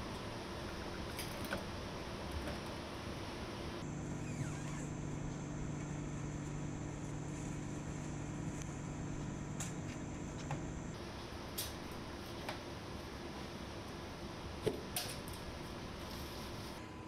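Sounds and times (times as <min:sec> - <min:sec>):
refrigeration machinery hum: 0:00.0 - 0:17.0.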